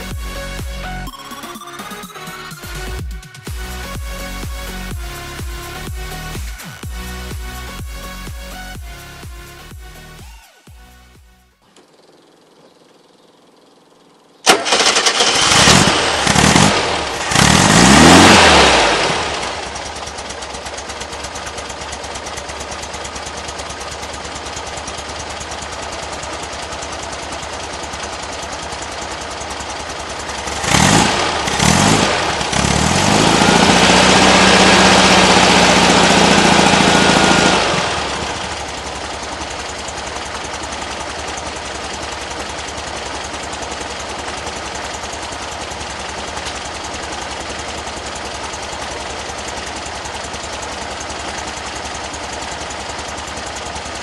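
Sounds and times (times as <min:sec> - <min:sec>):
air-cooled engine revving and idling: 0:00.0 - 0:01.1, 0:02.7 - 0:11.2, 0:14.4 - 0:54.0.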